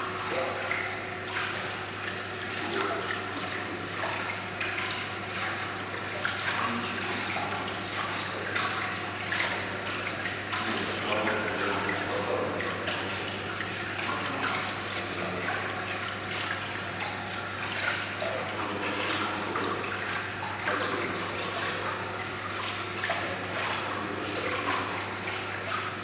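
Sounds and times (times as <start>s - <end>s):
low steady hum: 0.0s - 26.0s
water falling and splashing: 0.0s - 26.0s.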